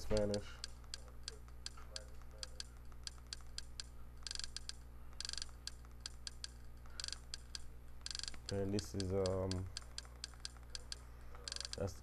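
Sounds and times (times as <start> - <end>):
small control clicks: 0.0 - 12.0
steady low hum: 0.0 - 12.0.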